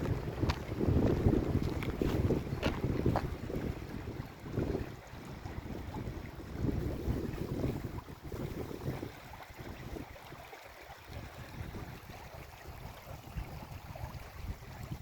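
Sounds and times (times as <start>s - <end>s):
brook babbling: 0.0s - 15.0s
wind buffeting microphone: 0.0s - 15.0s.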